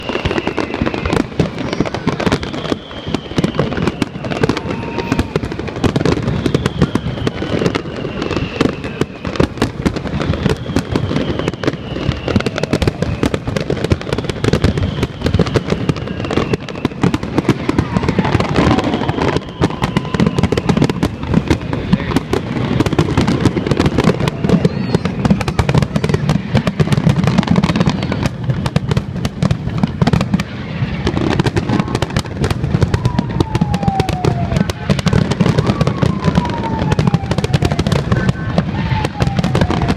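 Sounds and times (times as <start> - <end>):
firework whistles falling in pitch: 0.0 - 39.9
fireworks bangs and crackling: 0.0 - 39.9.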